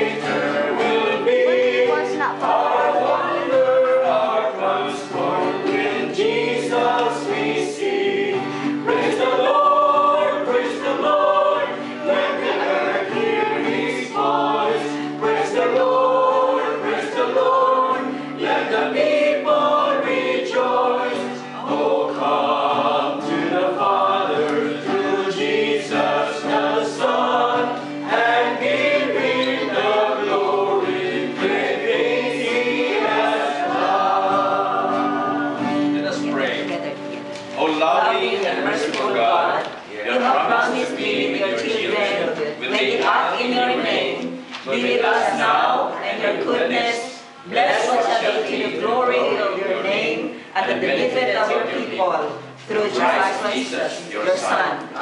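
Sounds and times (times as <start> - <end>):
group singing a hymn: 0.0 - 55.0.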